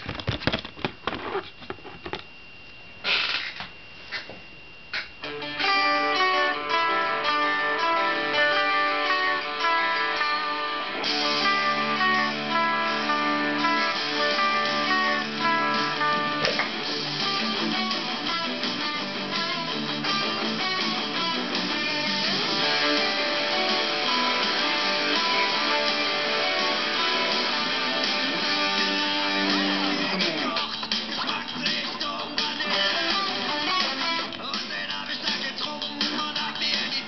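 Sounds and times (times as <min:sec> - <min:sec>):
electric guitar punk riff: 0:05.2 - 0:37.0.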